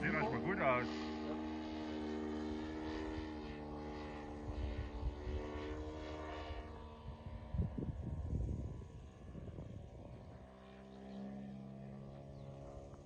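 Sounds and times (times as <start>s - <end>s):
model airplane engine drone: 0.0s - 13.0s.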